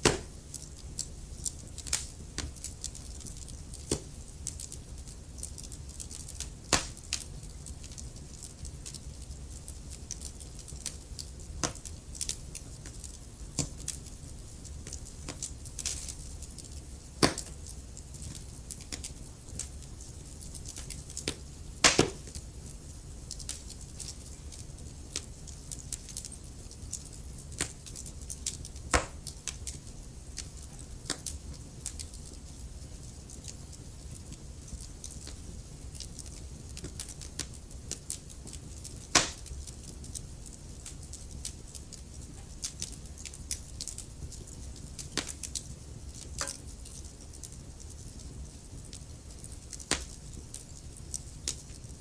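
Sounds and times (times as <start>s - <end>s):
logs crackling and popping: 0.0s - 52.0s
low rumble of flames: 0.0s - 52.0s.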